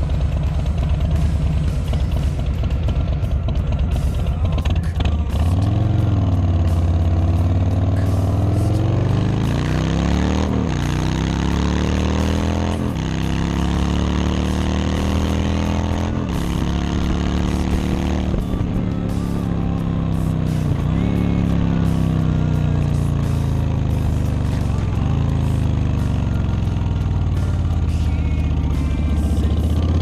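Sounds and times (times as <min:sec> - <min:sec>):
motorcycle engine shifting gears: 0:00.0 - 0:30.0.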